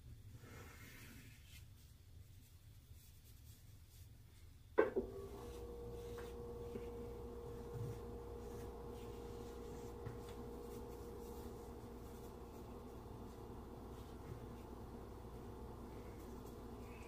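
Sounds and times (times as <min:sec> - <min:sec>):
faint steady hum: 0:01.7 - 0:17.0.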